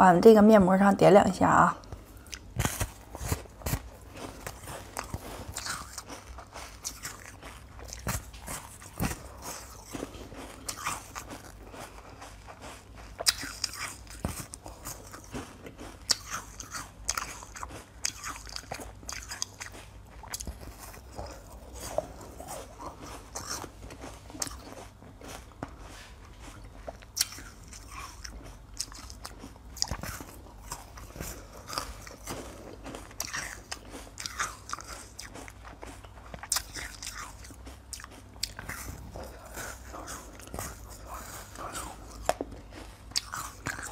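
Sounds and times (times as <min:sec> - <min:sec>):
teeth crunching ice: 0:02.2 - 0:25.6, 0:26.4 - 0:43.9.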